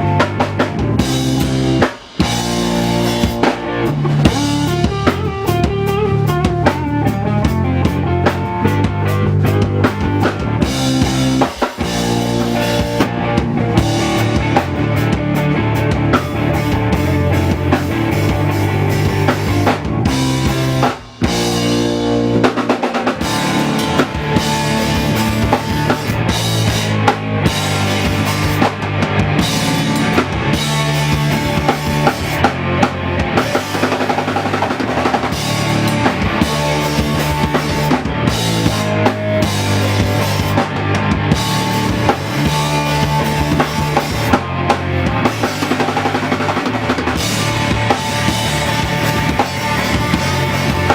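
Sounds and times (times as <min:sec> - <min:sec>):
drum kit: 0:00.0 - 0:50.9
live band playing: 0:00.0 - 0:50.9.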